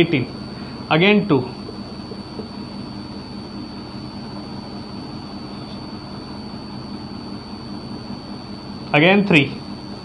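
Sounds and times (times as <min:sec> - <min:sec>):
faint high-pitched whine: 0:00.0 - 0:10.0
room noise: 0:00.0 - 0:10.0.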